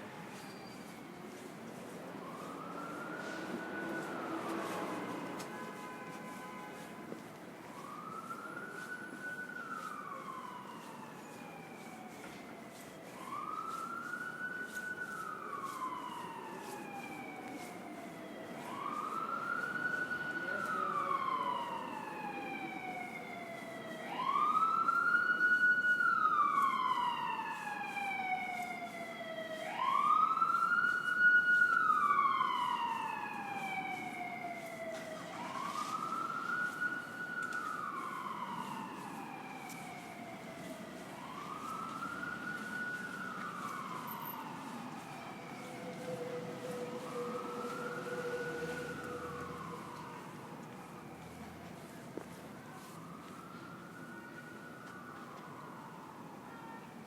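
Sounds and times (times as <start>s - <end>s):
emergency siren wailing: 0.0s - 57.0s.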